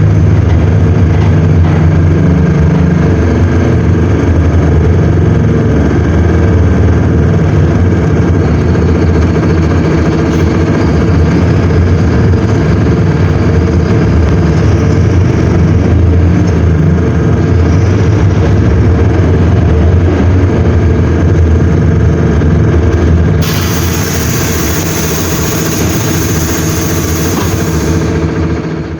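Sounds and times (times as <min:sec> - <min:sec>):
diesel bus engine running: 0:00.0 - 0:28.9.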